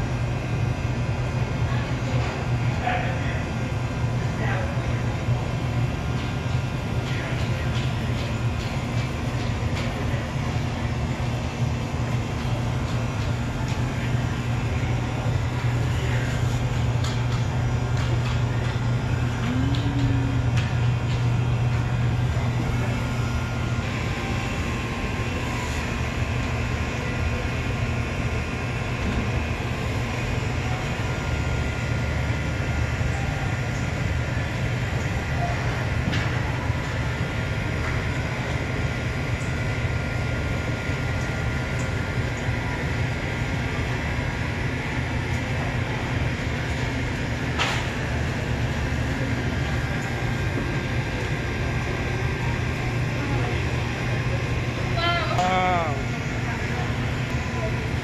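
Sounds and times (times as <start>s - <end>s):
cooling equipment hum: 0.0s - 58.0s.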